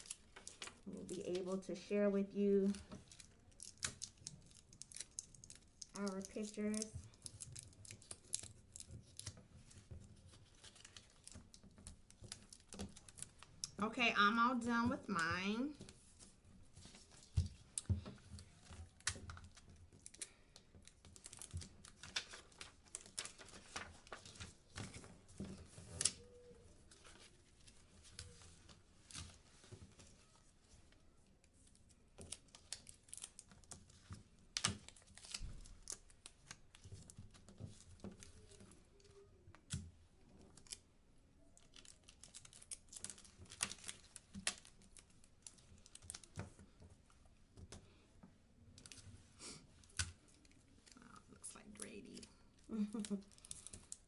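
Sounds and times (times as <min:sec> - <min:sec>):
paper crinkling: 0:00.0 - 0:40.8, 0:41.4 - 0:48.0, 0:48.7 - 0:54.0
paper rustling: 0:00.0 - 0:40.8, 0:41.6 - 0:48.0, 0:48.7 - 0:54.0.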